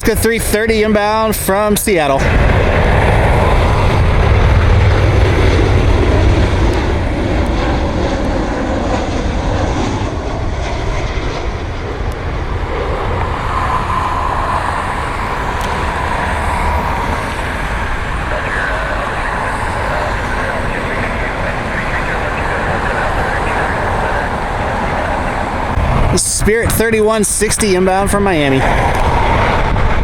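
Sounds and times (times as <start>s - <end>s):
jet engines passing: 0.0s - 30.0s
thin steady whine: 0.0s - 30.0s.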